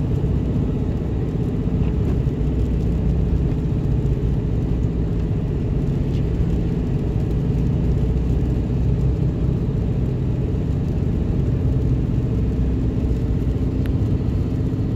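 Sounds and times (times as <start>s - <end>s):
engine and road drone: 0.0s - 14.9s.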